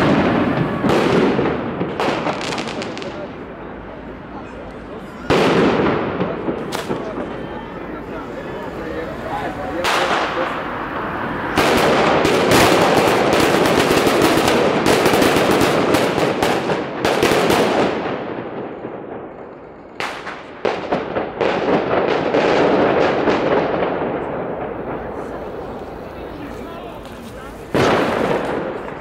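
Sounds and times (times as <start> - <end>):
firecrackers cracking: 0.0 - 29.0.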